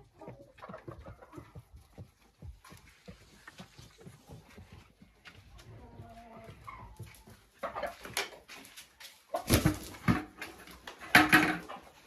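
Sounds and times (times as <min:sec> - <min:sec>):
hens calling: 0:00.0 - 0:09.8.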